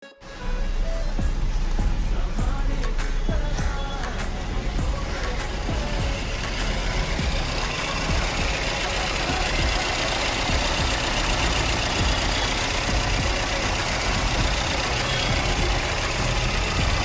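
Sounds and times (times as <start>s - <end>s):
car engine idling with misfire: 0.3s - 17.0s.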